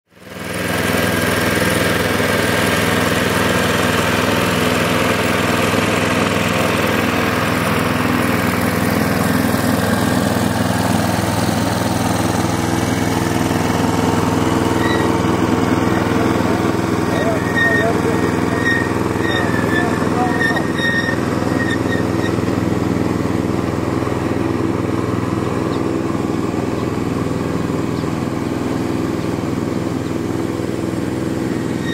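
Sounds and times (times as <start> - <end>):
small locomotive engine running: 0.1 - 31.9.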